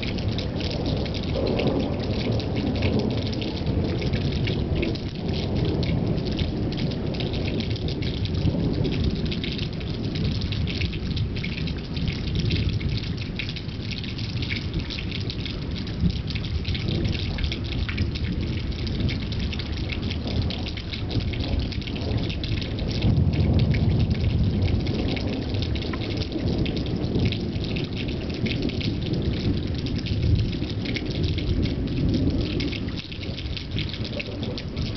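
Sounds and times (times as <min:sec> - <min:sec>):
low rumbling thunder: 0:00.0 - 0:34.9
rain falling: 0:00.0 - 0:34.9
raindrops splashing: 0:00.0 - 0:34.9.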